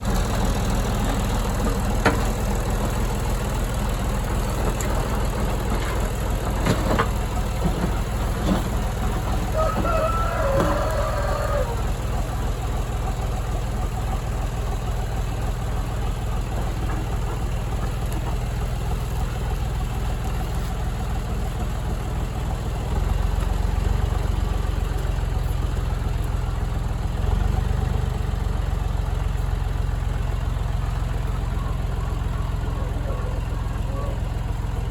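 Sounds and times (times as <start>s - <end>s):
engine rumbling: 0.0s - 34.9s.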